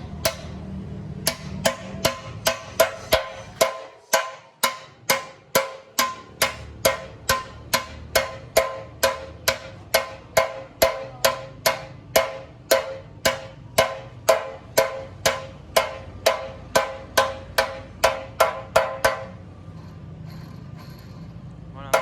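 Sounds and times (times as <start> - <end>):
hammer striking metal: 0.0 - 20.1, 20.9 - 22.0.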